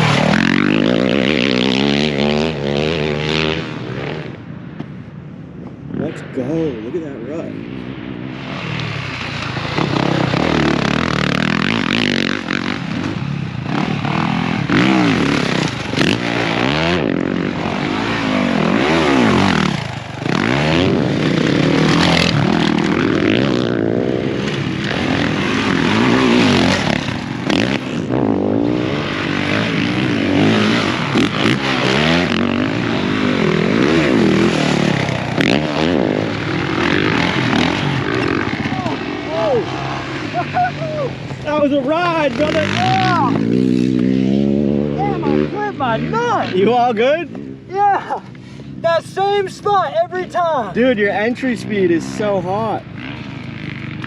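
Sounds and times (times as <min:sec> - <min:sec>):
dirt bike engine revving: 0:00.0 - 0:04.7, 0:05.9 - 0:54.0.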